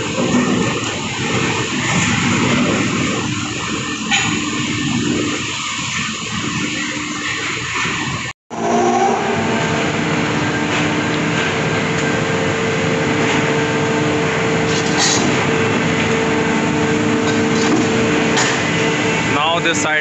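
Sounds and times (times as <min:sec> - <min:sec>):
wagon tippler mechanical drone: 0:00.0 - 0:20.0.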